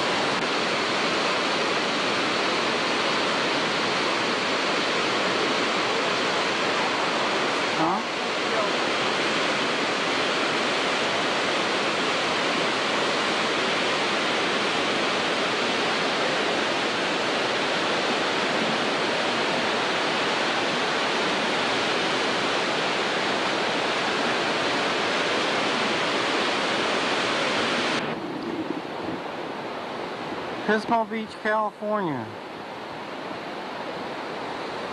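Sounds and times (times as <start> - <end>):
whitewater rushing over boulders: 0.0 - 34.9.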